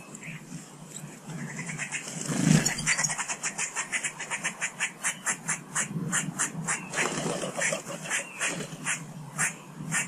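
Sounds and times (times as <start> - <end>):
bird harsh chattering: 1.4 - 10.0.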